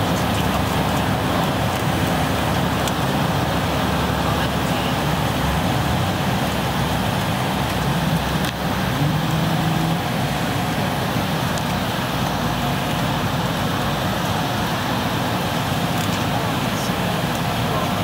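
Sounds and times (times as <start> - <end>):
airplane cabin engine roar: 0.0 - 18.0.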